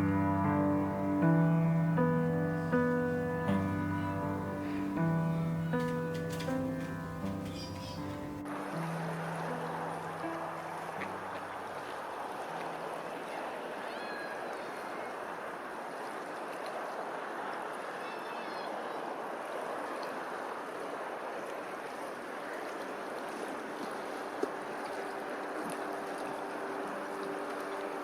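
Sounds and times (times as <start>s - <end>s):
flowing water rushing: 0.0s - 18.1s, 18.7s - 28.0s.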